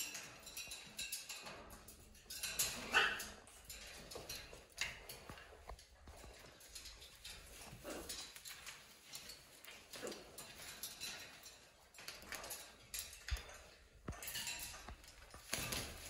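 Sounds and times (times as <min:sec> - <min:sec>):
claws on metal cage wire: 0:00.0 - 0:16.0.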